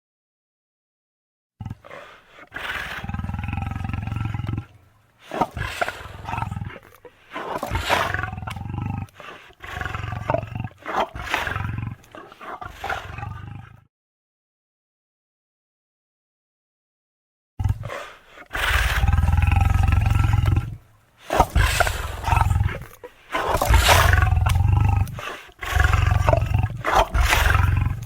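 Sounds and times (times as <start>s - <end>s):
lion roaring: 1.6s - 13.9s, 17.6s - 28.0s.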